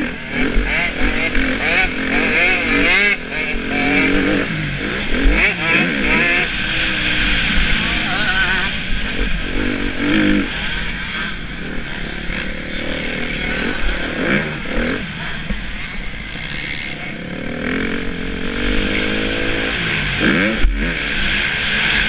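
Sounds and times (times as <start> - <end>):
motocross engine revving: 0.0 - 22.0.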